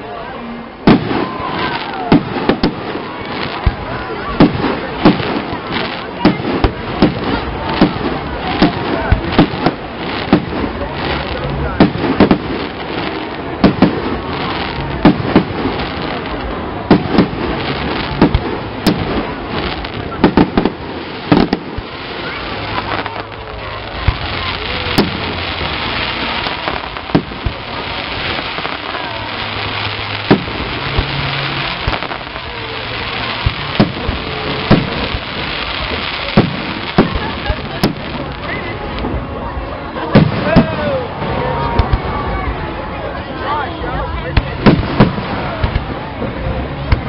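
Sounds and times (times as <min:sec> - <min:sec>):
crackling hiss of fireworks: 0:00.0 - 0:47.0
fireworks bursting bangs: 0:00.8 - 0:42.6, 0:44.3 - 0:47.0.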